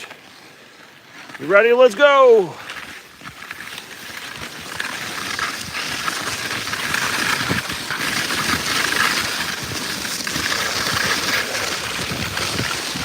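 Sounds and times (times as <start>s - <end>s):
skis hissing over snow: 0.0s - 13.0s.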